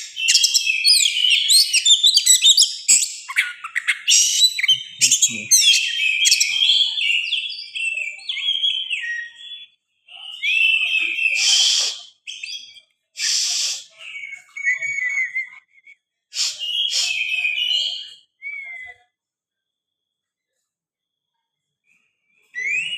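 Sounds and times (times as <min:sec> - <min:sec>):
bird singing whistled phrases: 0:00.0 - 0:19.1, 0:22.5 - 0:22.9.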